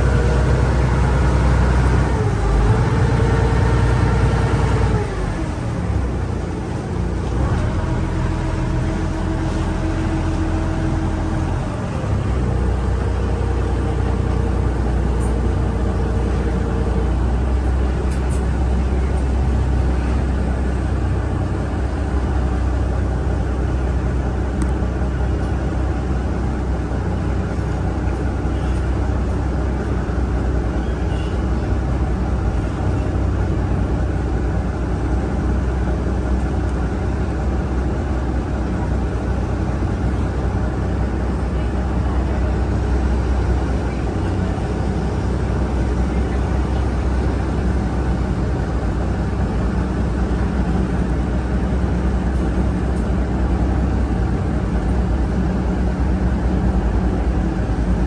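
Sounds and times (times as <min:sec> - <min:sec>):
ferry engine drone: 0:00.0 - 0:58.0.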